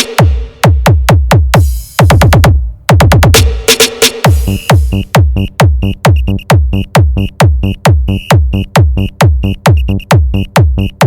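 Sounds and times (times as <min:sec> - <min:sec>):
electronic dance music: 0:00.0 - 0:11.0
heavy kick drum: 0:00.0 - 0:11.0.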